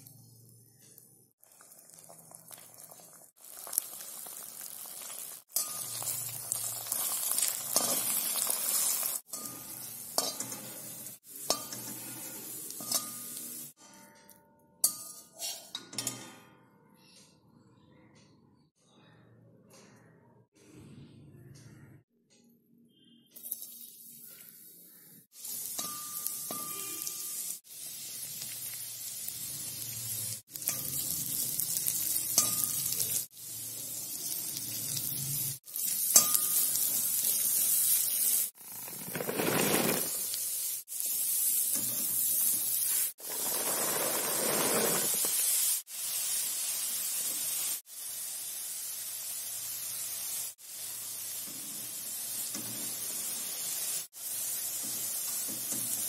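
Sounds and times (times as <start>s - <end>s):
vegetables sizzling in a pan: 1.4s - 13.8s, 23.4s - 56.0s.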